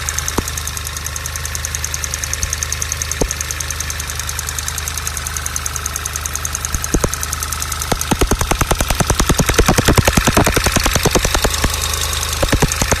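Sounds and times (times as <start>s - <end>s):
car engine injector ticking: 0.0s - 13.0s
loud irregular engine ticks: 0.0s - 13.0s.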